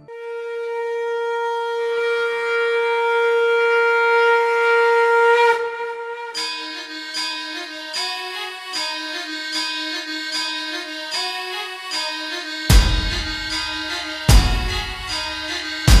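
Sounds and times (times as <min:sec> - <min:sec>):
reedy wind instrument playing: 0:00.0 - 0:16.0.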